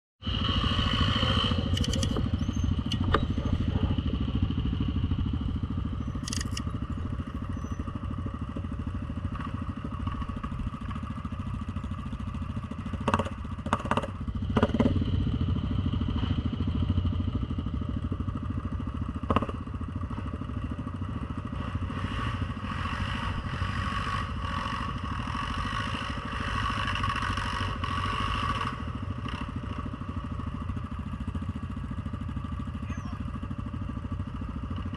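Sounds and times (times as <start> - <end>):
atv engine running: 0.2 - 34.9.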